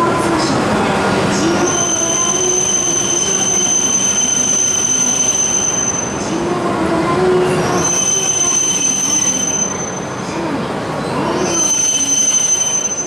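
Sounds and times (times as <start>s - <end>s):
train rolling into platform: 0.0s - 13.0s.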